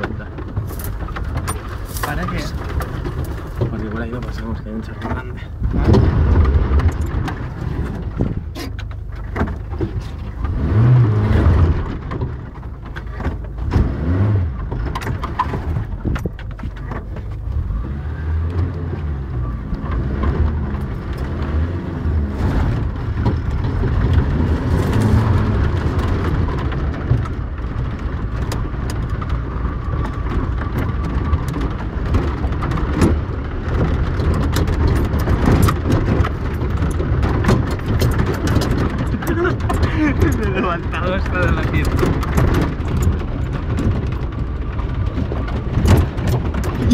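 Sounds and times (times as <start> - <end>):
car engine revving: 0.0 - 16.2, 16.9 - 46.9
bodywork knocking and rattling: 0.0 - 46.9.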